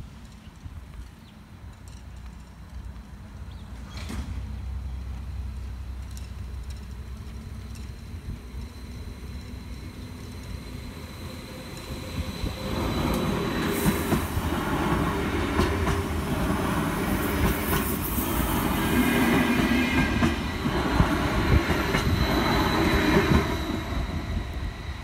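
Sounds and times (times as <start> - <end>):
wheels clicking over rail joints: 0.0 - 22.2
train wheels rumbling on rails: 0.0 - 25.0.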